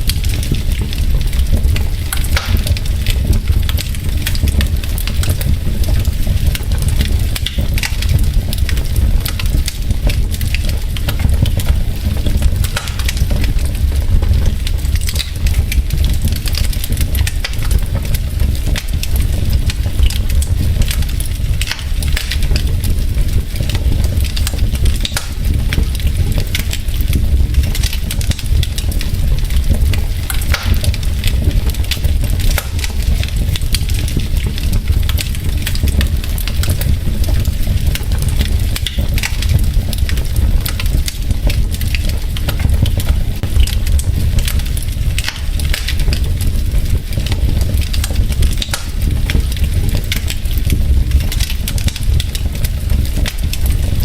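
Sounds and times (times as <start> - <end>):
fire low rumble: 0.0 - 54.0
logs crackling and popping: 0.0 - 54.0.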